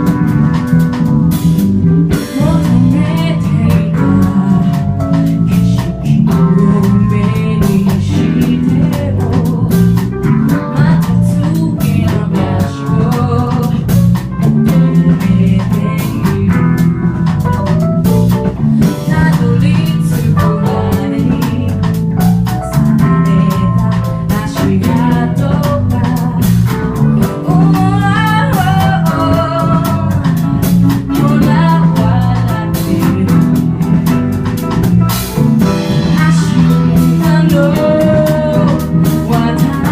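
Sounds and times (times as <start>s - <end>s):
drum kit: 0.0s - 39.9s
electric guitar: 0.0s - 39.9s
live band music: 0.0s - 39.9s.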